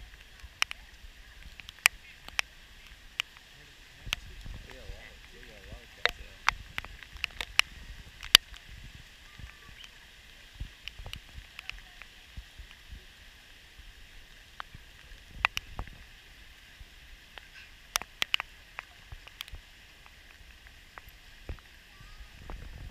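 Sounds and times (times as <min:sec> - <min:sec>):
raindrops ticking on camera housing: 0:00.0 - 0:22.9
steady hiss of rain: 0:00.0 - 0:22.9.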